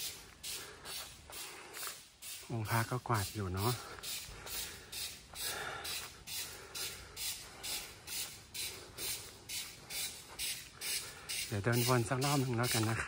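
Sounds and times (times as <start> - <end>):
footsteps on sandy ground: 0.0 - 6.7, 7.4 - 13.0.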